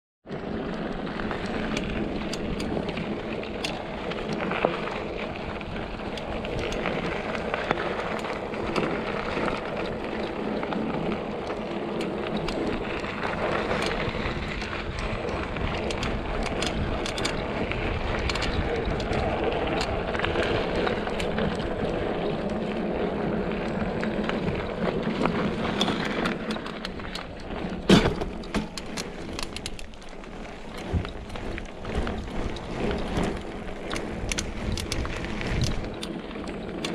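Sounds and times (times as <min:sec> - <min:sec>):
bike tyres on dirt trail: 0:00.2 - 0:36.9
bike rattling over bumps: 0:00.3 - 0:36.9.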